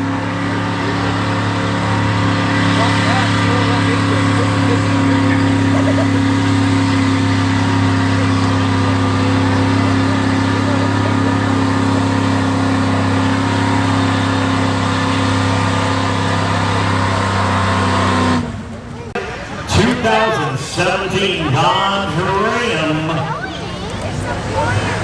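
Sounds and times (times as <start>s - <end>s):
pickup truck engine at high revs: 0.0s - 25.0s.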